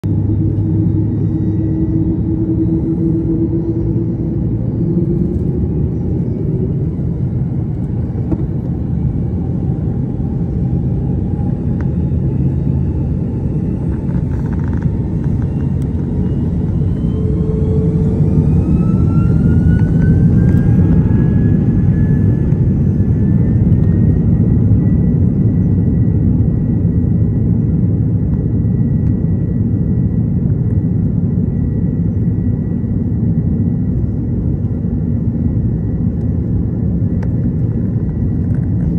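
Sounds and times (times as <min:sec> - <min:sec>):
jet engine whine rising: 0:00.0 - 0:38.9.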